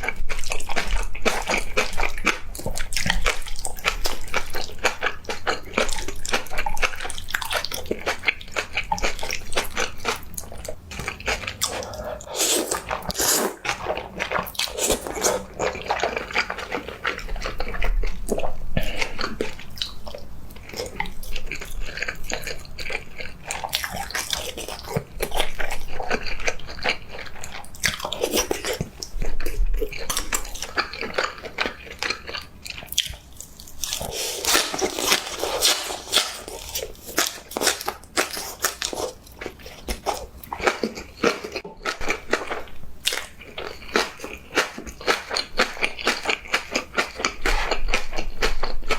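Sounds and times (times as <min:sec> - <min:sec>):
crunching and chewing food: 0:00.0 - 0:48.9.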